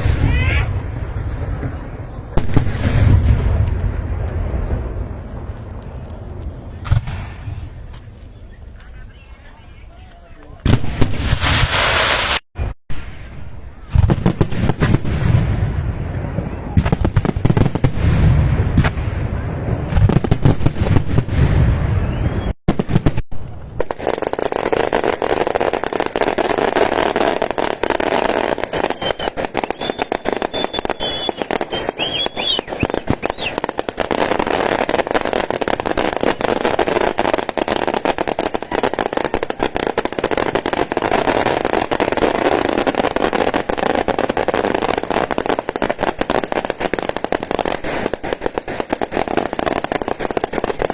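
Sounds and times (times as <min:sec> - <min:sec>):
deep firework booms: 0:00.0 - 0:50.9
fireworks crackling bangs: 0:00.0 - 0:50.9.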